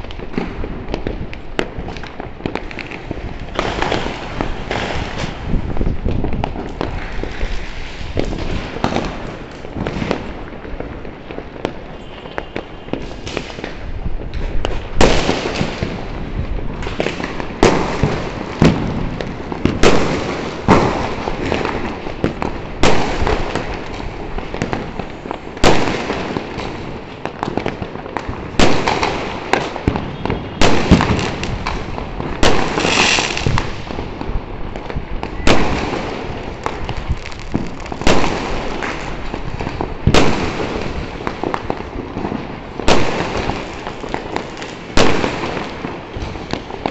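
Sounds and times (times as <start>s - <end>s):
firecrackers crackling: 0.0s - 46.9s
fireworks bangs: 0.0s - 46.9s.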